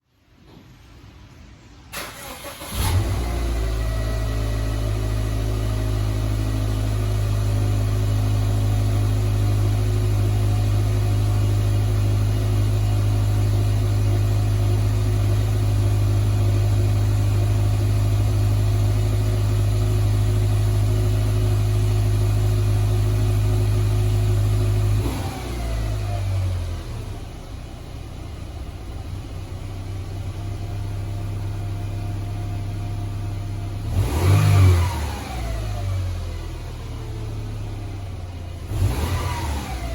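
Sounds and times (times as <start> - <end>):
car engine cold start and idle: 1.6 - 39.9.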